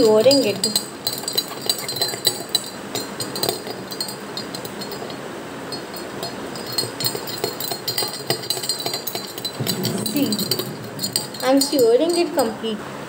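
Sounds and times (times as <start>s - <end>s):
metal spoon clinking in glass: 0.0s - 12.6s.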